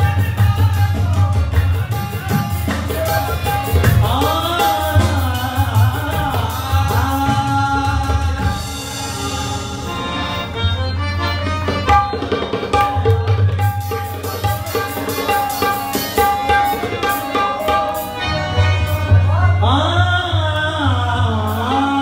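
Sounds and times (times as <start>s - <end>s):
harmonium: 0.0s - 22.0s
tabla drumming: 0.0s - 22.0s.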